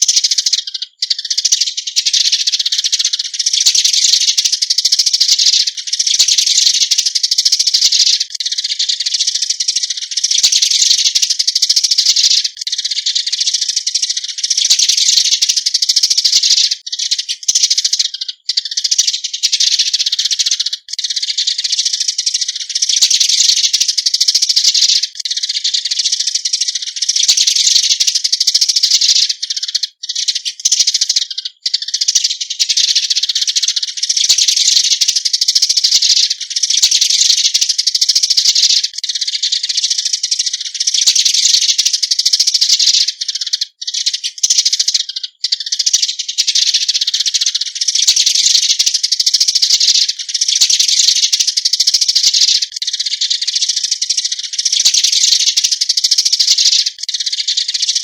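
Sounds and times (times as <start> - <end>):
sparrows chattering: 0.0 - 58.0.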